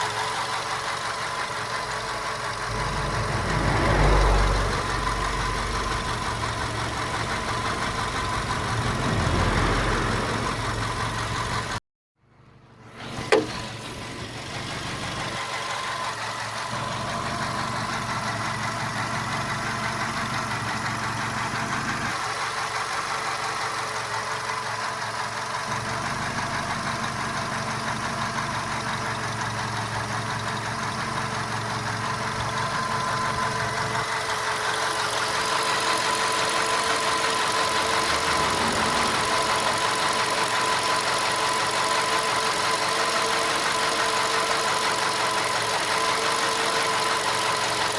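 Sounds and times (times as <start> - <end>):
car engine idling with knocking: 0.0 - 47.9.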